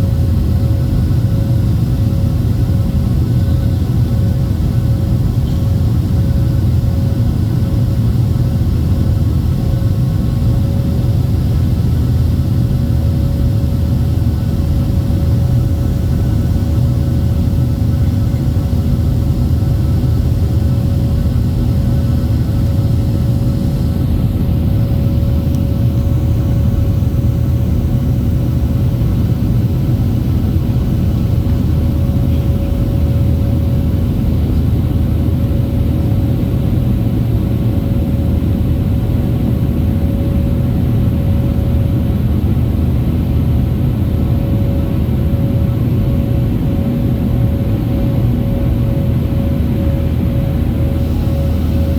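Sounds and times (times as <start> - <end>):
jet engine rumble in cabin: 0.0 - 51.9
steady cabin hum: 0.0 - 51.9.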